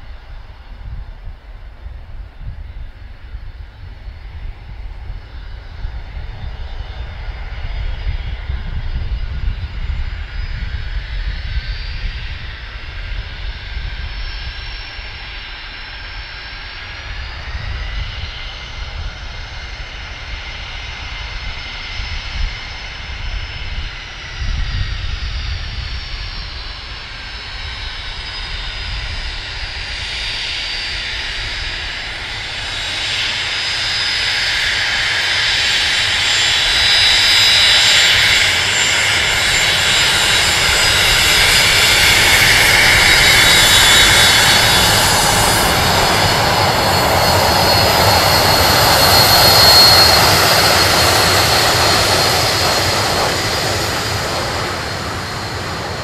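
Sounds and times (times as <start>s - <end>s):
jet engines whining: 2.4s - 56.0s.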